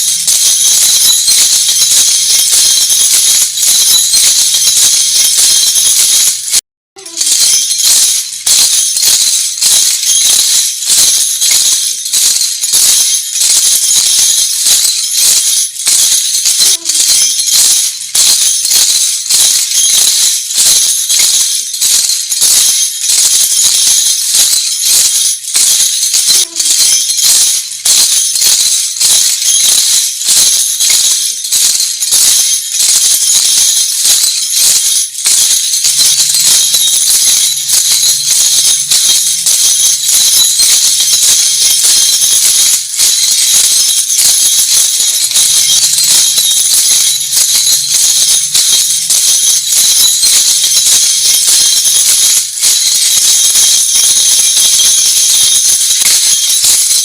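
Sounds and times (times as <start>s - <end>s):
metal jingle discs clashing: 0.0s - 57.0s.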